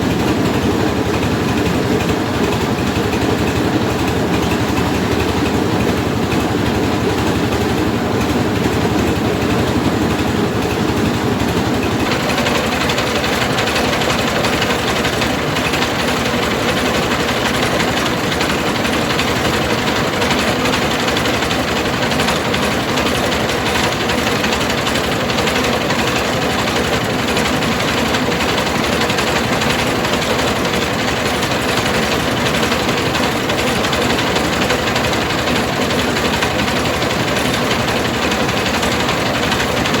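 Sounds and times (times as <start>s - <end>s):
rice milling machine running: 0.0s - 40.0s.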